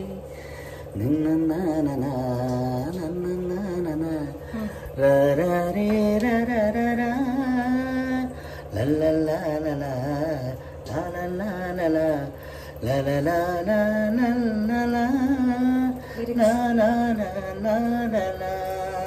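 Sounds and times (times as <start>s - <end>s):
man singing: 0.0s - 19.0s.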